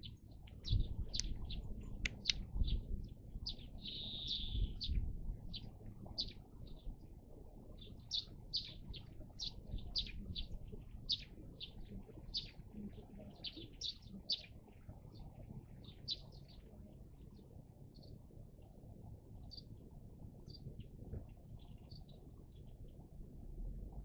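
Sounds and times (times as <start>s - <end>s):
small birds chirping: 0.0s - 18.2s, 20.4s - 23.0s
faint low background rumble: 0.0s - 24.0s.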